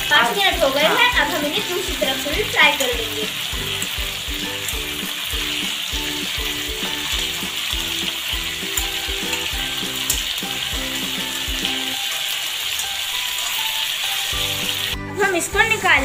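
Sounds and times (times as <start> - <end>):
metal tongs turning food: 0.0 - 15.0
chicken sizzling in hot oil: 0.0 - 16.0.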